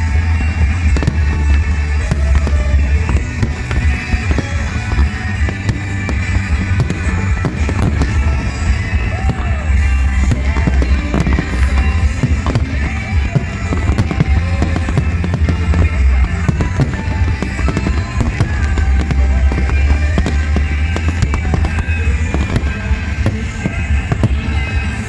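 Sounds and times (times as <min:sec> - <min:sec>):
fireworks banging and crackling: 0:00.0 - 0:25.0
loud music with bass: 0:00.0 - 0:25.0.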